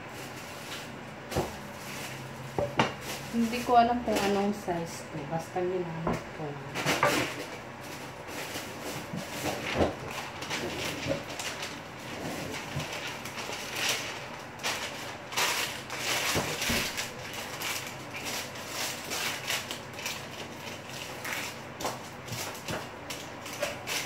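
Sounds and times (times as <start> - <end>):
wrapper rustling and crinkling: 0.0 - 4.9, 6.8 - 24.0.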